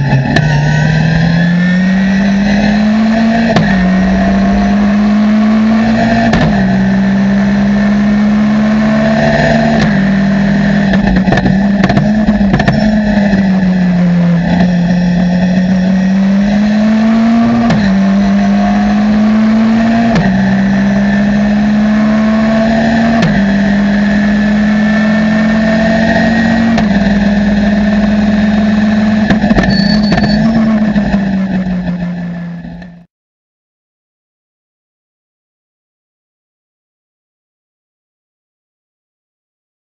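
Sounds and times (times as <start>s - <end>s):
race car engine at high revs: 0.0s - 33.1s.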